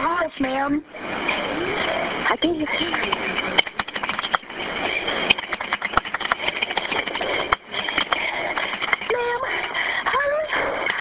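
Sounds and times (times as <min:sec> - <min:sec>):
telephone line hiss: 0:00.0 - 0:11.0.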